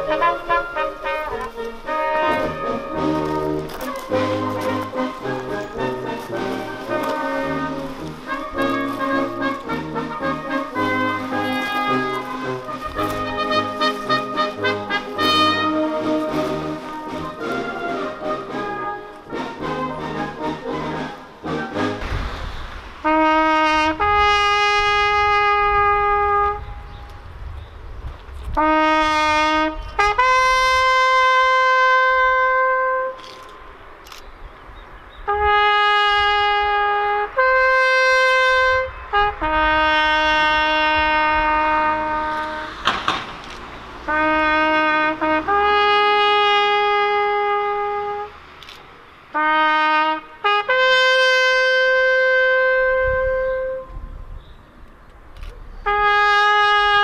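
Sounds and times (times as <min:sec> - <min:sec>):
solo trumpet bugle call: 0:00.0 - 0:22.1, 0:23.0 - 0:26.9, 0:28.6 - 0:33.6, 0:35.3 - 0:42.9, 0:44.1 - 0:48.5, 0:49.4 - 0:54.1, 0:55.8 - 0:57.0.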